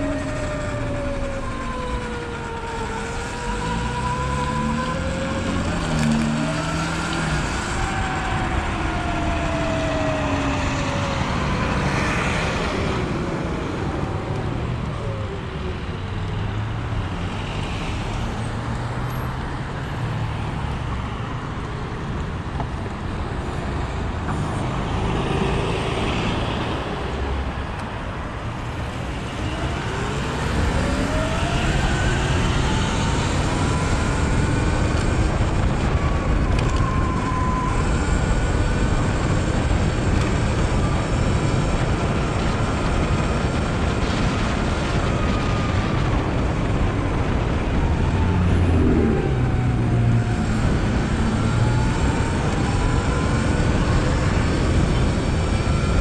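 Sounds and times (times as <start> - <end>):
passing traffic: 0.0 - 56.0
road and wind noise: 0.0 - 56.0.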